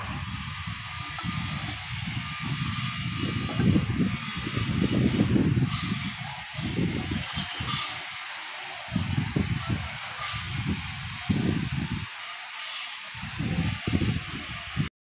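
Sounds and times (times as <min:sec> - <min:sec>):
wind buffeting microphone: 0:00.0 - 0:08.1, 0:08.8 - 0:12.2, 0:13.1 - 0:14.9
steady hiss: 0:00.0 - 0:14.9.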